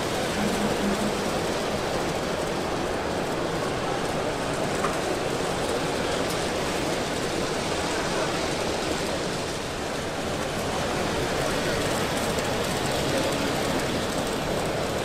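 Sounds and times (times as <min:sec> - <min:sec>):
exhibition hall hubbub: 0:00.0 - 0:15.0.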